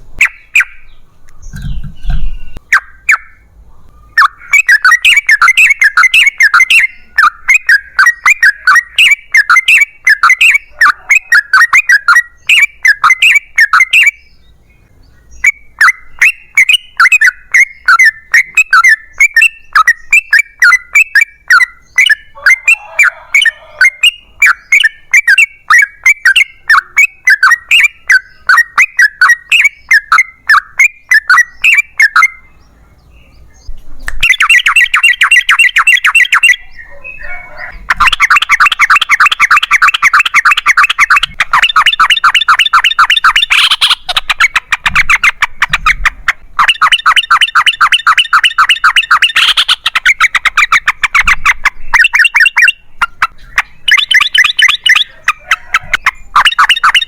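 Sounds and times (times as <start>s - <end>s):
fast-pulsed bird trill: 0.0s - 3.5s, 4.1s - 14.3s, 15.4s - 32.6s, 34.2s - 57.0s
bird chattering song: 0.0s - 57.0s.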